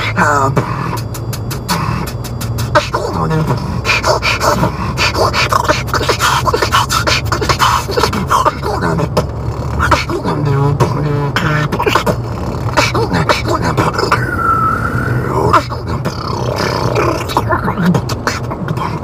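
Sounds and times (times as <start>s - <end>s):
beatboxing: 0.0s - 14.6s, 15.3s - 19.0s
low car hum: 0.0s - 19.0s.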